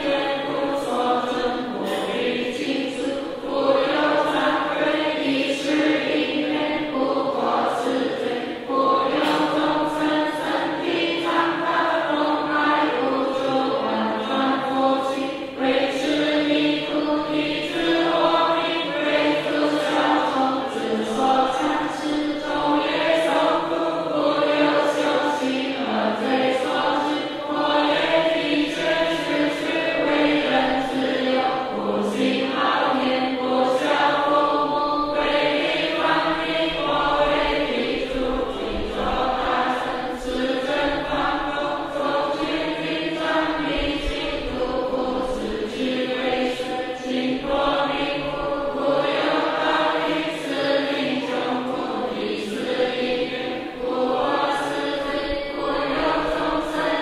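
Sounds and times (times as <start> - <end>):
group of voices chanting: 0.0 - 57.0.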